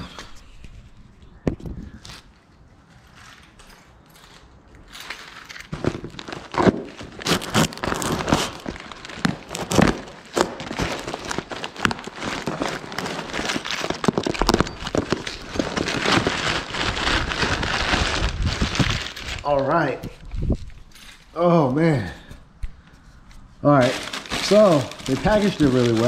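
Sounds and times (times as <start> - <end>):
packaging crinkling and rustling: 2.0 - 21.4, 23.7 - 26.0.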